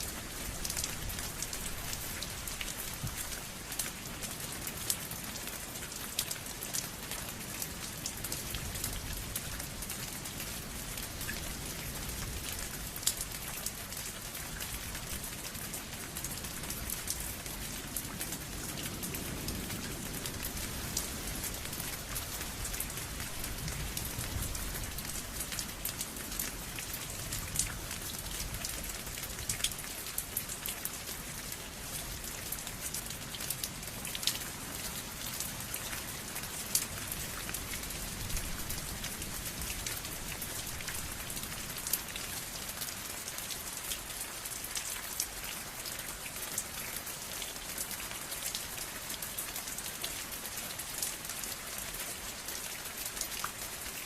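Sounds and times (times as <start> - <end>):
rain falling on surface: 0.0 - 54.0.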